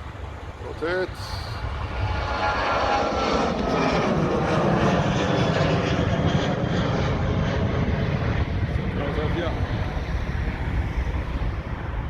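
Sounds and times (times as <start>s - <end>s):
jet airliner engines roaring: 0.0s - 12.0s.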